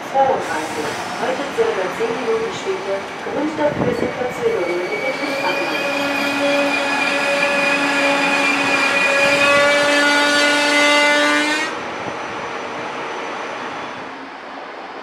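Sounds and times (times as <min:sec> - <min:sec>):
electric train traction whine: 0:00.6 - 0:15.0.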